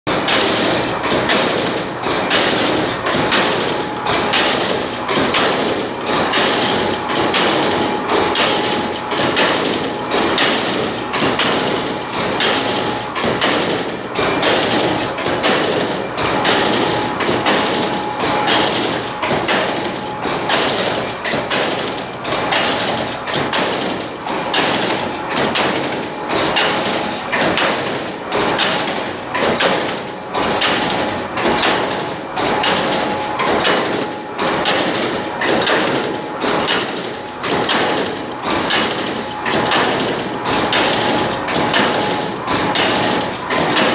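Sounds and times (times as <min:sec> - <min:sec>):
wire weaving machine clatter: 0:00.1 - 0:43.9.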